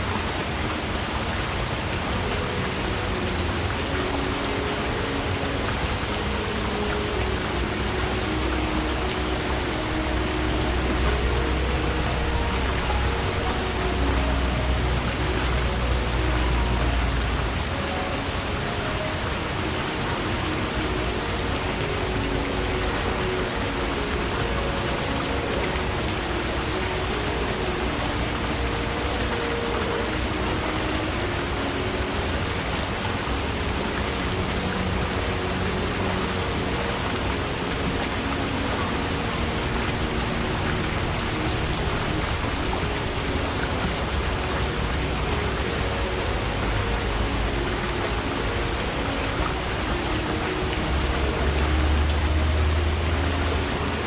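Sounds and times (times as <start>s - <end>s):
low water bubbling: 0.0s - 54.0s
stream water rushing: 0.0s - 54.0s.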